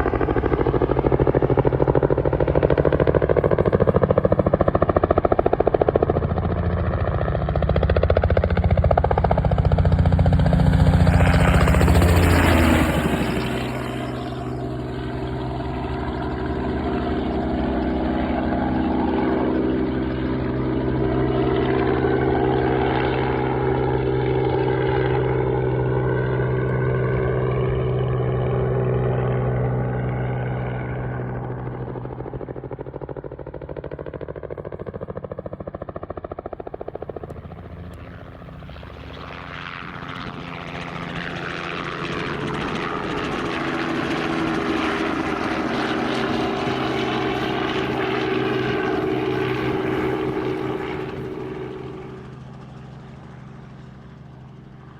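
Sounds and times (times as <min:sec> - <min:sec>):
helicopter engine and rotor: 0:00.0 - 0:54.9.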